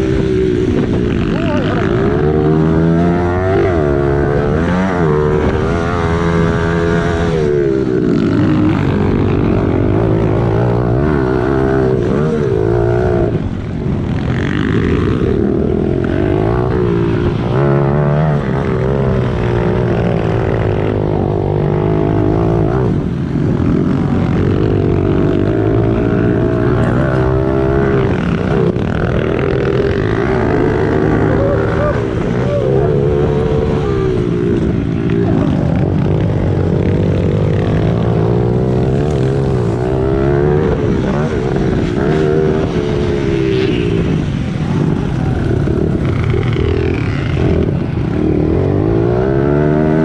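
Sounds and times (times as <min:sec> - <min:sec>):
pit bike engine revving: 0:00.0 - 0:50.0.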